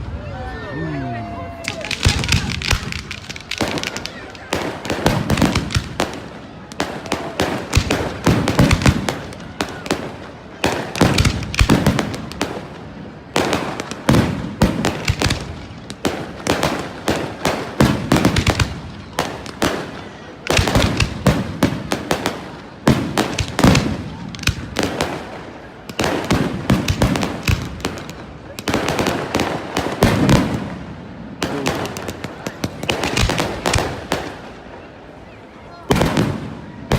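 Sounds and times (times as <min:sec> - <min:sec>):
fireworks bangs and crackling: 0:00.0 - 0:36.9.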